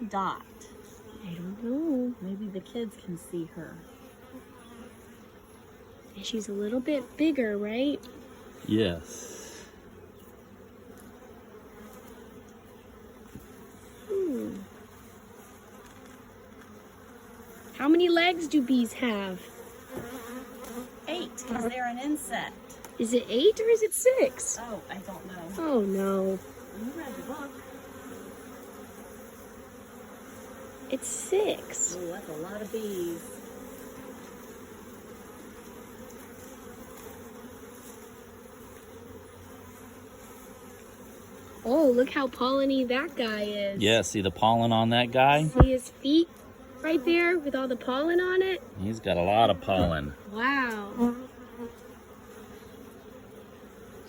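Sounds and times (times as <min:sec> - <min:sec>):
honeybees buzzing: 0:00.0 - 0:54.0.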